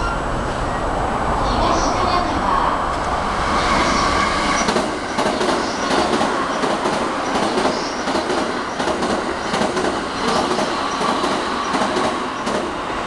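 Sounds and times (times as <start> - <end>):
electric train slowing: 0.0 - 13.0.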